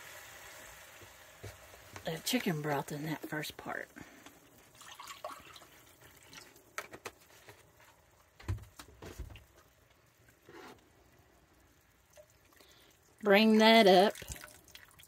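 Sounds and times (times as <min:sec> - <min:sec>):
sauce simmering with small pops: 0:00.1 - 0:02.5, 0:03.2 - 0:15.0.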